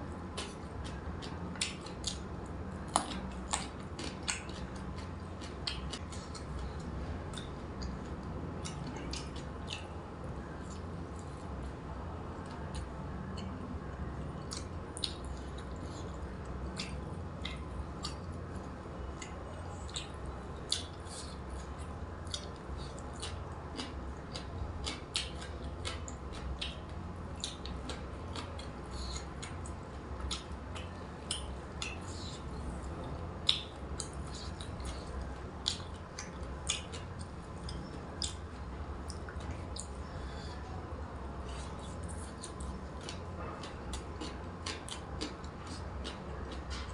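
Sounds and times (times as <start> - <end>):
low steady hum: 0.0 - 46.9
wet chewing and mouth smacks: 0.3 - 11.6, 14.4 - 40.5, 41.4 - 46.9.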